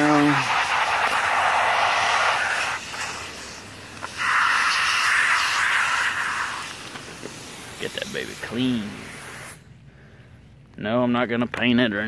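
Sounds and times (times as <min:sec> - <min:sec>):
hose spray hissing on plastic: 0:00.0 - 0:09.7.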